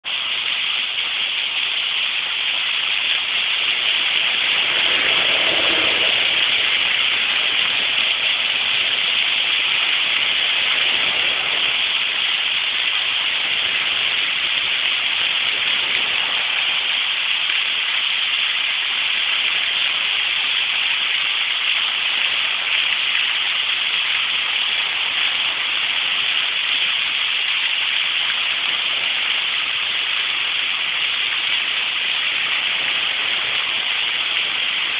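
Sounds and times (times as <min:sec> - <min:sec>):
fountain water splashing: 0:00.0 - 0:34.9.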